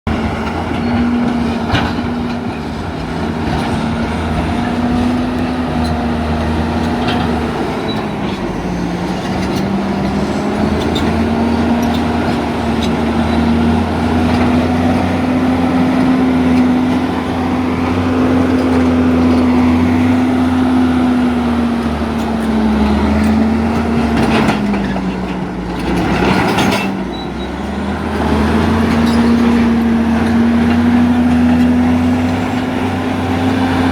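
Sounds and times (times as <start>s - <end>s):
bulldozer diesel engine running: 0.1s - 33.9s.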